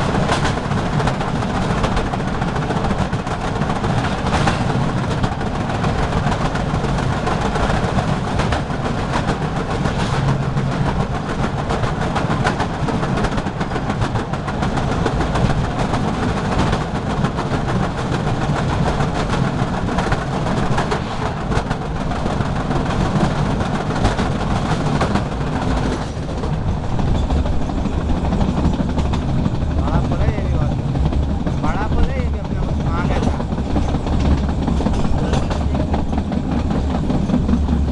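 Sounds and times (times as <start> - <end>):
train rumble: 0.0 - 37.9
wheels clattering over rail joints: 0.0 - 37.9.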